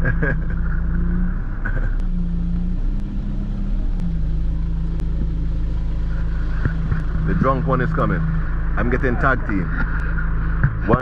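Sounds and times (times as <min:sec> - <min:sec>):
faint ticking: 0:00.0 - 0:11.0
vehicle engine idling: 0:00.0 - 0:11.0.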